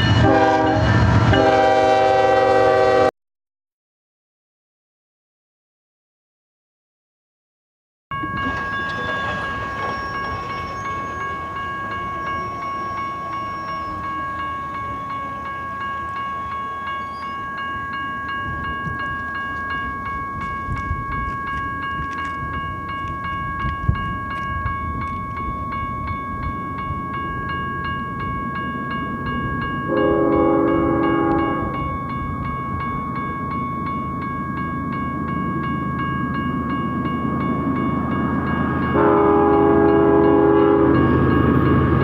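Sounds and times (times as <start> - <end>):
low rumble of locomotives: 0.0 - 3.1, 8.1 - 42.0
railroad crossing bell ringing: 0.0 - 3.1, 8.1 - 42.0.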